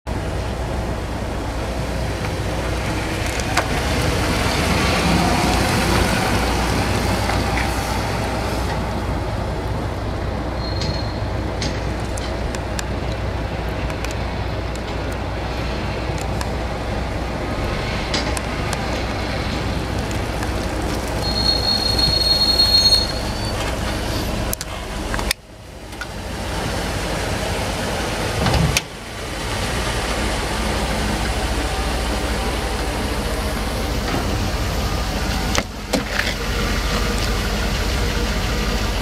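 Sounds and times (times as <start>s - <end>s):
car engine driving away: 0.2s - 13.6s, 14.2s - 39.0s.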